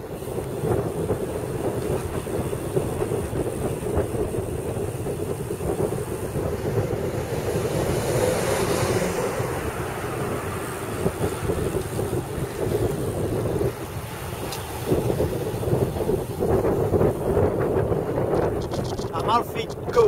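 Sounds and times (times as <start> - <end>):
bike tyres rolling over asphalt: 0.0 - 20.0
wind buffeting microphone: 0.0 - 20.0.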